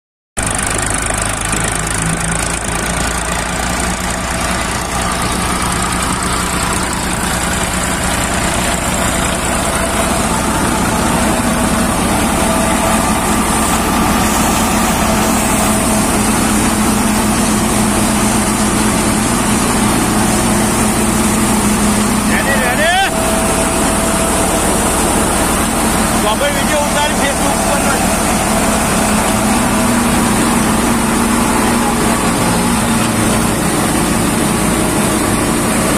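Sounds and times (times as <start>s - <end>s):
tractor engine and thresher drone: 0.4s - 35.9s.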